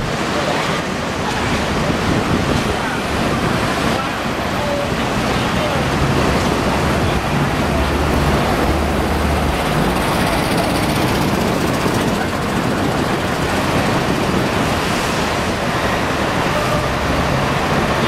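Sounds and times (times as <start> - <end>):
road traffic: 0.0 - 18.0
low engine hum: 1.1 - 18.0.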